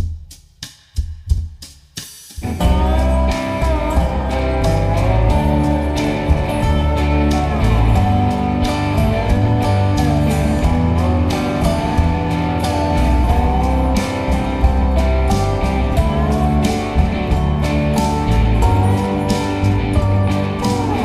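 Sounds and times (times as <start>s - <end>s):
drum hits: 0.0s - 21.0s
band with guitar playing: 2.4s - 21.0s.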